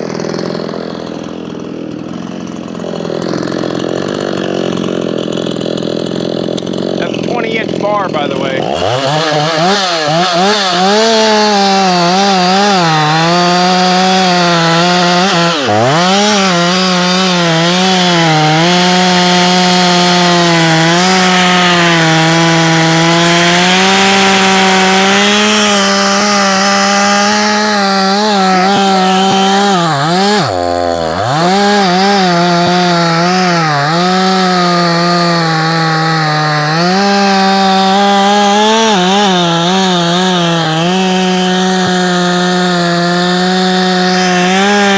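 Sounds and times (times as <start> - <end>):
chainsaw cutting log: 0.0 - 44.9.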